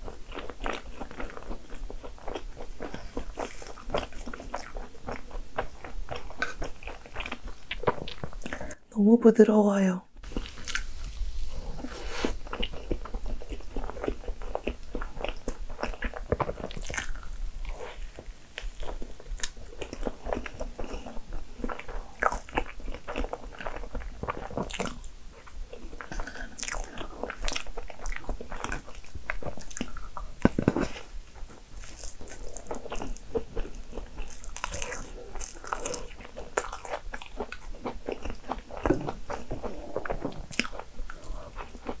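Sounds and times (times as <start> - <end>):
person chewing soft cake: 0.0 - 8.8, 10.2 - 42.0.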